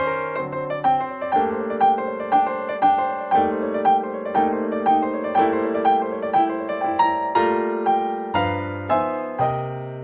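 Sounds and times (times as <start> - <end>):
piano notes: 0.0 - 10.0.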